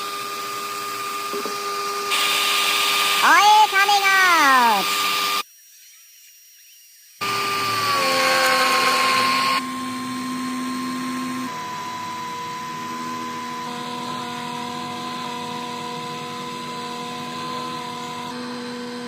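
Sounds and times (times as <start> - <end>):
pump motor humming: 0.0 - 5.4, 7.2 - 19.0.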